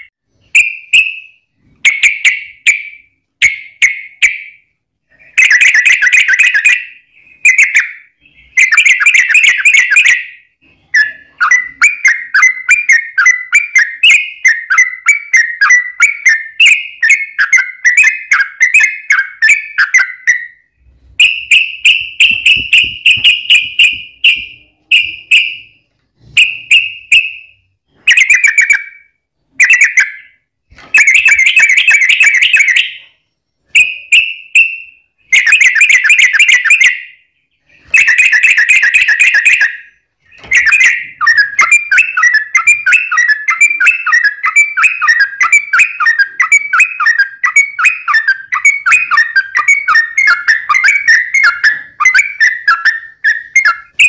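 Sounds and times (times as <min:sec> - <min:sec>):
bulbuls singing: 0:05.1 - 0:29.0, 0:29.6 - 0:54.0.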